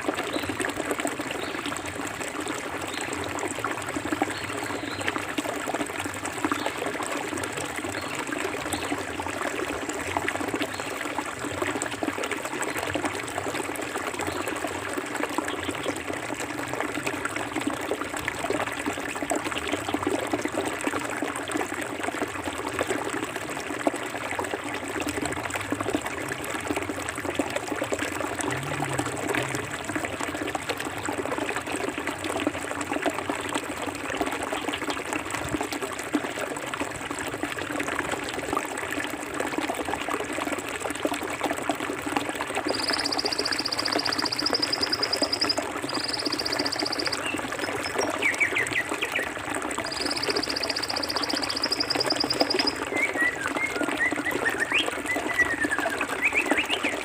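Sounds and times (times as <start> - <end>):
river water trickling and splashing: 0.0 - 57.0.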